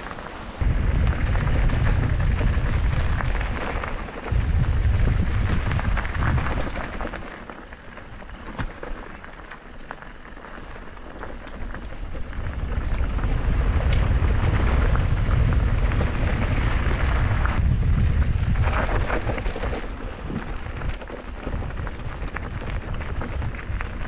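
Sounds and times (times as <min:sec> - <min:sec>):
wind rushing over microphone: 0:00.0 - 0:07.4, 0:11.6 - 0:24.0
bike knocks and rattles: 0:00.6 - 0:24.0.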